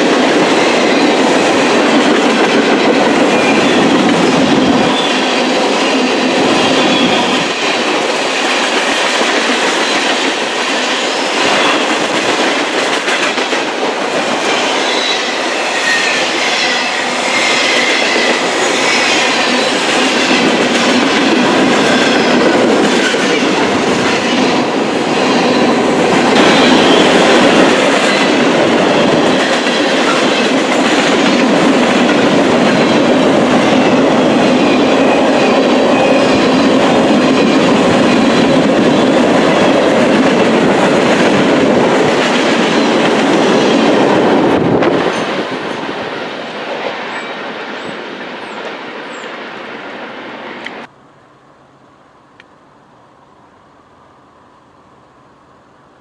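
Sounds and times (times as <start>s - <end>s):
steel wheels rolling on rail: 0.0s - 50.9s.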